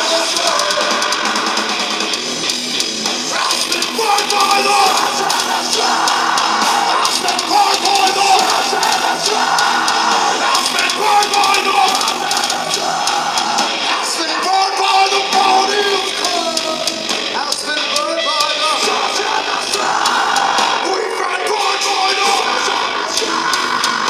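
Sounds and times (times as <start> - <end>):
distorted electric guitar: 0.0 - 24.0
drum kit with crashing cymbals: 0.0 - 24.0
heavy metal band playing: 0.0 - 24.0
vocalist singing: 0.0 - 24.0.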